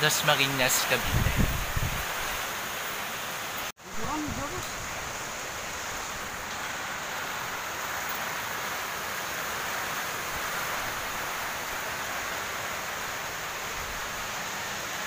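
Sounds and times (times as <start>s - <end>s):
rain and wind hiss: 0.0s - 15.0s.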